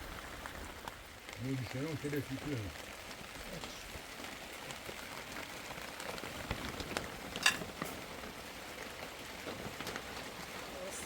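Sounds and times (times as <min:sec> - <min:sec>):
rain pattering on a surface: 0:00.0 - 0:11.0.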